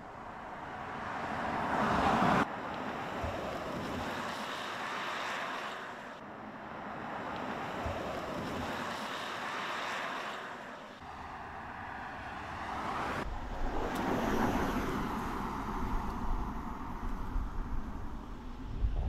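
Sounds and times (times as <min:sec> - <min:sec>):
car tyre and wind rush passing: 0:00.0 - 0:06.2, 0:06.9 - 0:19.0.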